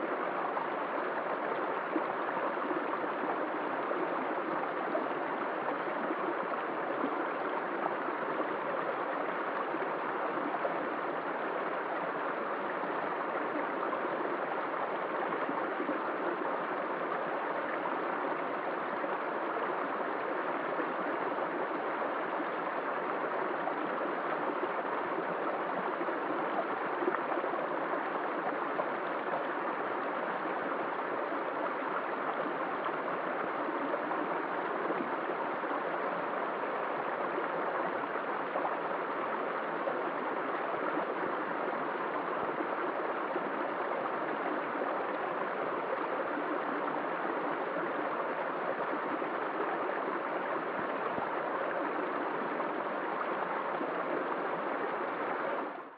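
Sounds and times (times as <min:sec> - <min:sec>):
stream babbling over stones: 0:00.0 - 0:55.9.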